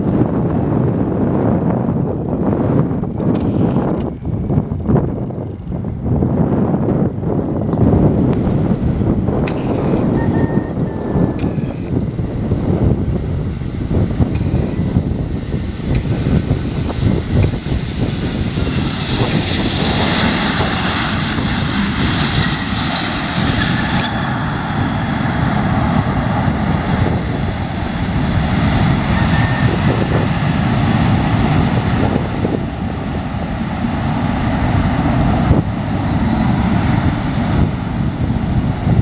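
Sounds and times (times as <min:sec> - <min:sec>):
aircraft engine low rumble: 0:00.0 - 0:39.0
aircraft engine whine: 0:00.0 - 0:39.0.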